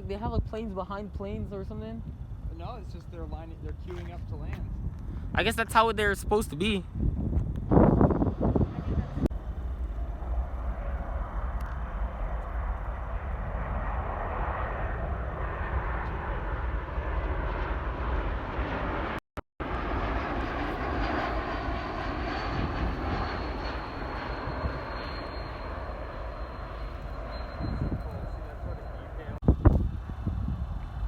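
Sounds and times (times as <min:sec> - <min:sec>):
high engine whine: 0:00.0 - 0:31.0
jet engine roar: 0:00.0 - 0:31.0.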